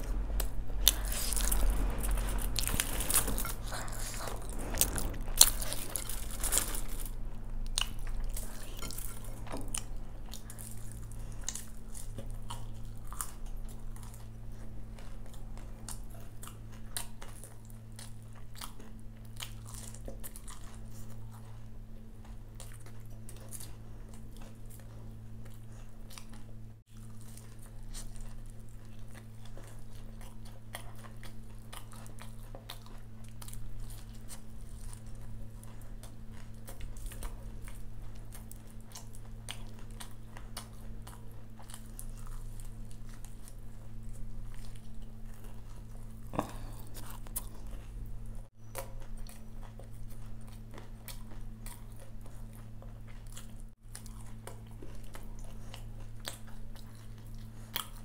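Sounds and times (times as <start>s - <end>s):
crunchy chewing of fried fritters: 0.0s - 58.0s
low electrical hum: 0.0s - 58.0s.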